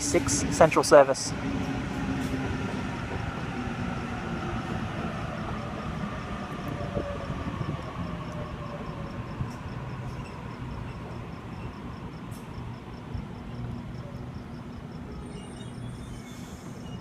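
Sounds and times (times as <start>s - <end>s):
electric train rumbling on rails: 0.0s - 17.0s
faint train whine: 0.0s - 17.0s.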